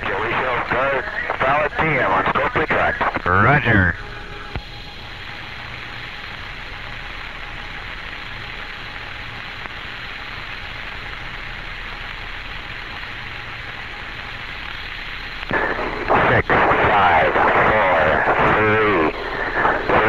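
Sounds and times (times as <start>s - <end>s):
faint low hum: 0.0s - 20.0s
radio channel hiss: 0.0s - 20.0s.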